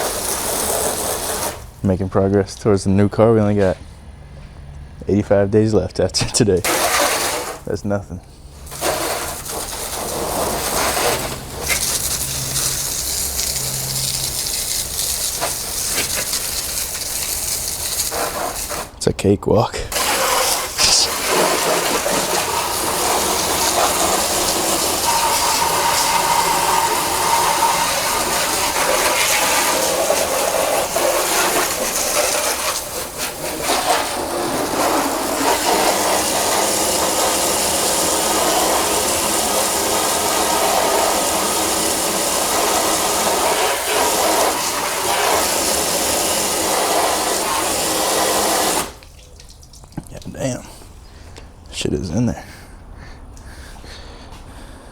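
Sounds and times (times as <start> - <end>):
water spraying on car body: 0.0 - 2.2, 6.6 - 19.0, 19.9 - 50.2.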